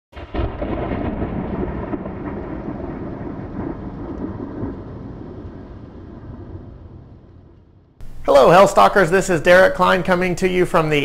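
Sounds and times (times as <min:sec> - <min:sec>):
thunder rumbling: 0:00.2 - 0:11.0.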